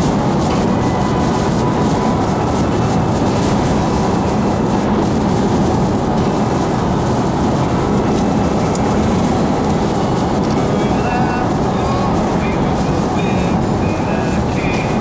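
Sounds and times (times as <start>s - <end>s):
heavy rain on vehicle: 0.0s - 15.0s
tyres on wet road: 0.0s - 15.0s.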